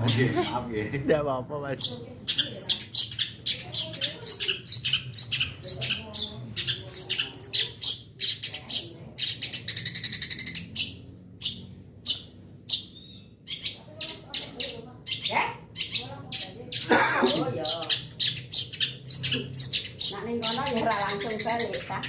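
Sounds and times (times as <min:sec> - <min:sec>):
bird sharp high calls: 0:01.8 - 0:22.0.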